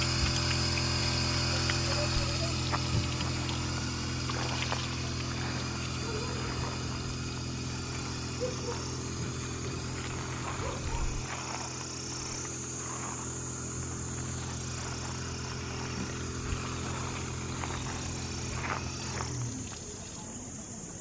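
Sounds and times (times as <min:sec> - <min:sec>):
insect drone: 0:00.0 - 0:21.0
low mechanical hum: 0:00.0 - 0:21.0.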